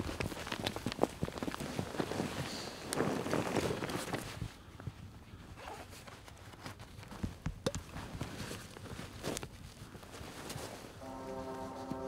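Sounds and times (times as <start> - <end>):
clothing and backpack rustling: 0.0 - 12.0.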